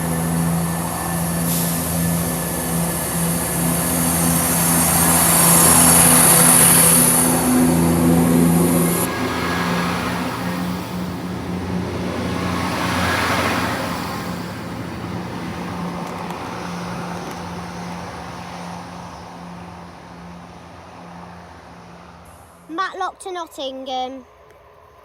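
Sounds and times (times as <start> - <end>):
diesel train engine droning: 0.0 - 25.0.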